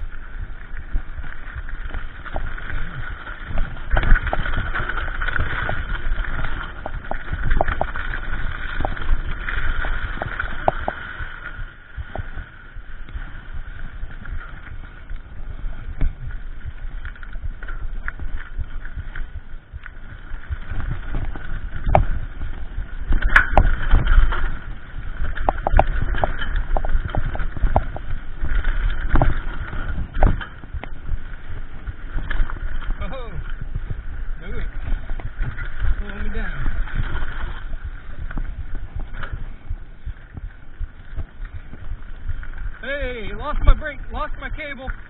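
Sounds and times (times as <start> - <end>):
bike rattling and knocking: 0.0 - 45.0
wind rumble on camera: 0.0 - 45.0.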